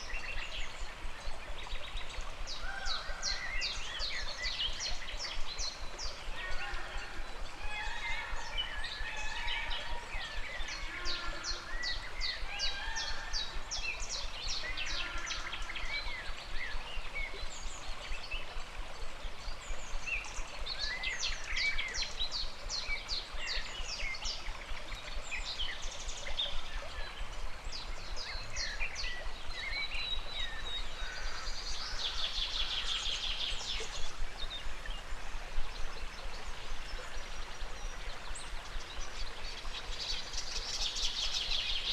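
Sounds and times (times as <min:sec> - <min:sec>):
river flowing: 0:00.0 - 0:41.9.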